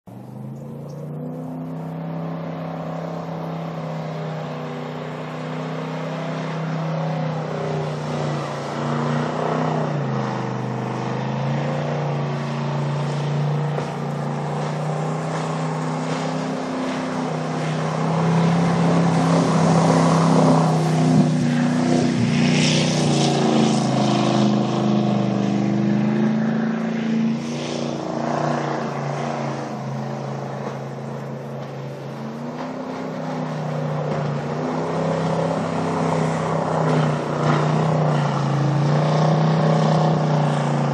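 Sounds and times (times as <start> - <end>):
jet boat engine running hard: 0.1 - 40.9.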